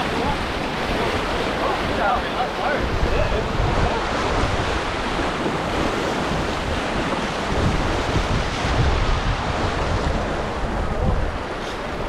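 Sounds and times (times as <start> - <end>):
whitewater rushing: 0.0 - 12.0
wind buffeting microphone: 0.0 - 12.0.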